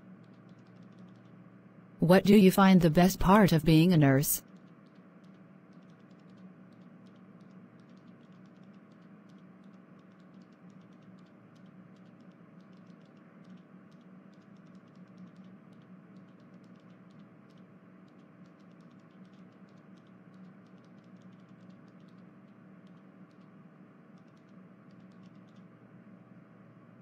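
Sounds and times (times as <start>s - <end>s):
soft irregular clicks: 0.0s - 1.4s, 4.4s - 25.9s
low steady hum: 0.0s - 27.0s.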